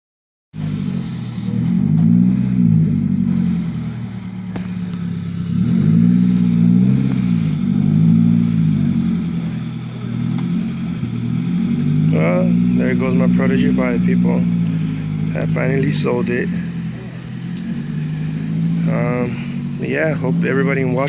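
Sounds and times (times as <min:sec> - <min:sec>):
car engine idling: 0:00.5 - 0:21.0.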